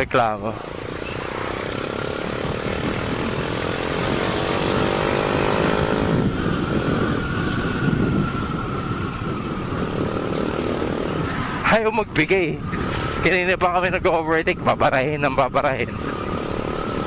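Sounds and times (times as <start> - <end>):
wind noise: 0.0 - 17.0
motorcycle engine running: 0.5 - 17.0.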